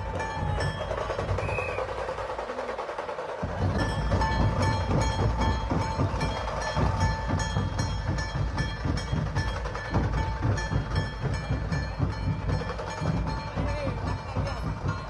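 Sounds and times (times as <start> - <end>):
train carriage rumble and rattle: 0.0 - 15.0.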